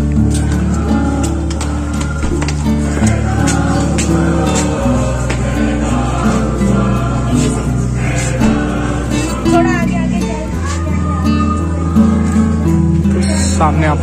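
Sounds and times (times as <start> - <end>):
choir singing: 0.0 - 14.0
sustained low notes: 0.0 - 14.0.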